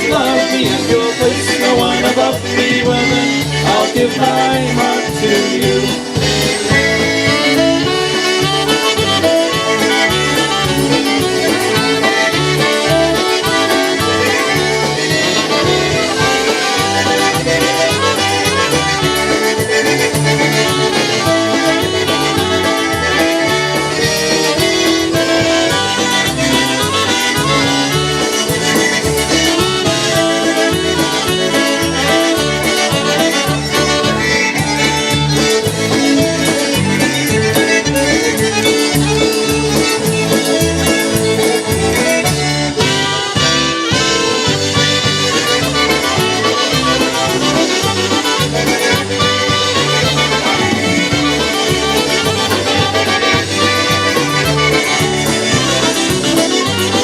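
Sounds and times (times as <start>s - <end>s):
polka band playing: 0.0s - 57.0s
pulsing bass beat: 0.0s - 57.0s.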